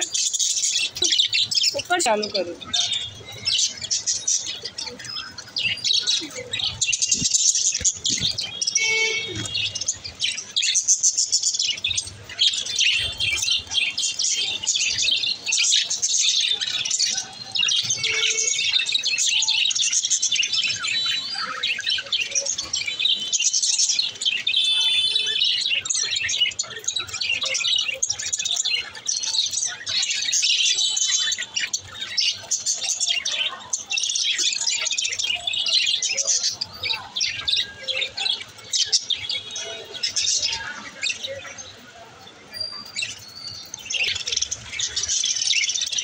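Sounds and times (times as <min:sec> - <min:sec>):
budgerigars chirping: 0:00.0 - 0:41.8.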